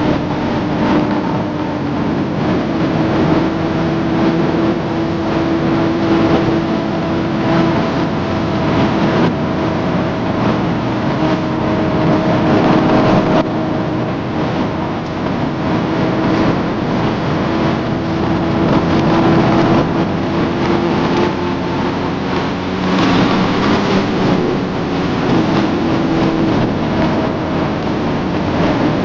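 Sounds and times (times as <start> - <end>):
motorcycle engine running: 0.0 - 29.0
wind rush: 0.0 - 29.0.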